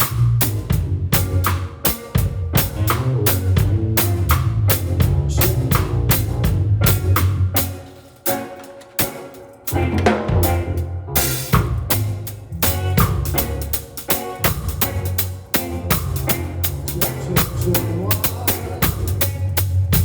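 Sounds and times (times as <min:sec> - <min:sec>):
bass line: 0:00.0 - 0:08.0, 0:09.7 - 0:20.0
drum kit groove: 0:00.0 - 0:20.0.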